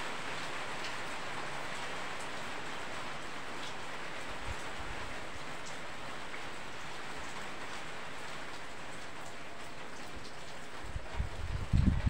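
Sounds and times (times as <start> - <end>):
rain falling on wet ground: 0.0 - 12.0.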